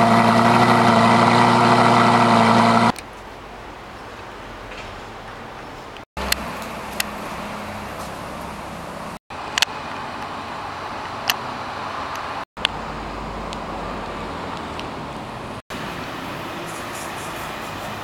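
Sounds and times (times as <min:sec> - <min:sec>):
road vehicle noise: 0:00.0 - 0:18.0.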